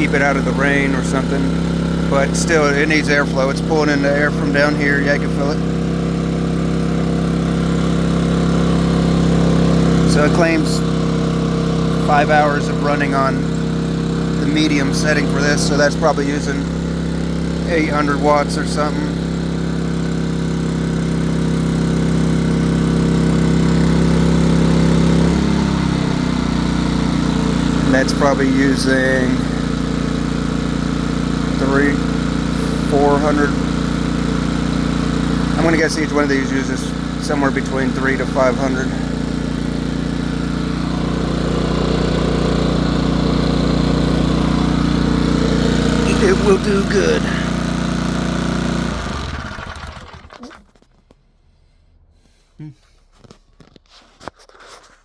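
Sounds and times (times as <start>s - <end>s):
generator engine running: 0.0s - 54.2s.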